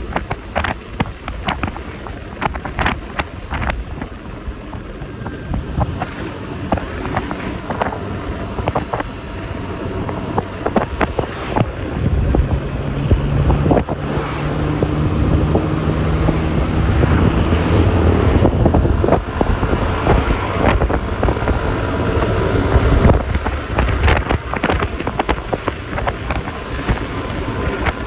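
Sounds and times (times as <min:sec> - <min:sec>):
road noise: 0:00.0 - 0:28.0
scooter engine humming: 0:00.0 - 0:28.0
wind buffeting microphone: 0:00.0 - 0:28.0.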